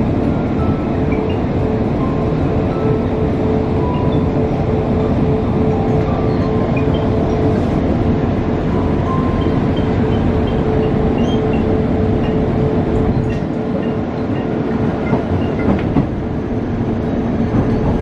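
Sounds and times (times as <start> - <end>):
train interior rumble and hum: 0.0 - 18.0.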